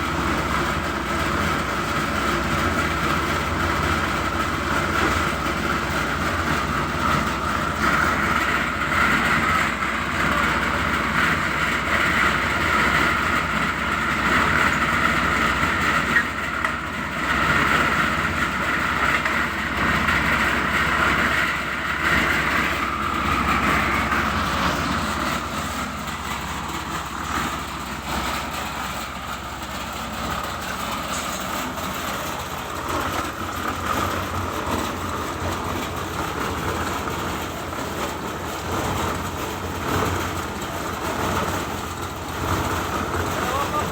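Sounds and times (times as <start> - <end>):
concrete mixer running: 0.0 - 43.9.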